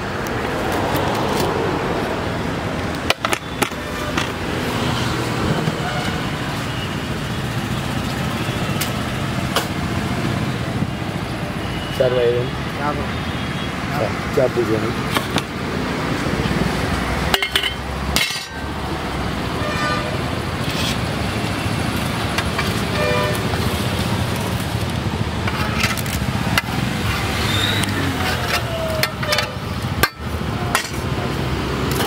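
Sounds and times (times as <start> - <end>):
road traffic: 0.0 - 32.0.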